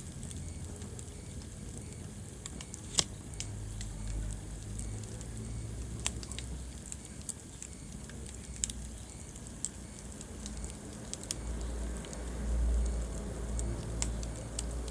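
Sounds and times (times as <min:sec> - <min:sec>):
wood fire crackling: 0:00.0 - 0:14.9
fire pops and snaps: 0:00.1 - 0:14.9.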